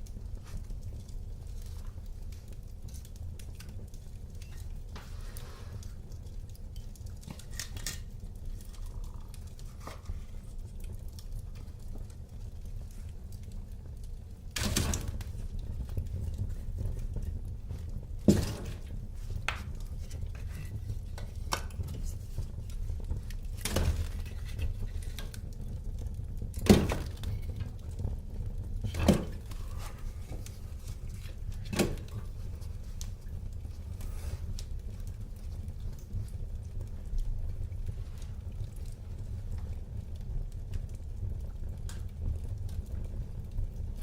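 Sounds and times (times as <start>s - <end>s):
fire crackling and popping: 0.0s - 44.0s
rumble of flames: 0.0s - 44.0s.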